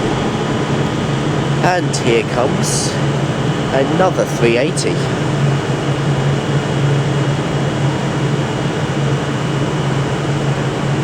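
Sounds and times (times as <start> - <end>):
train hum and rumble: 0.0 - 11.0.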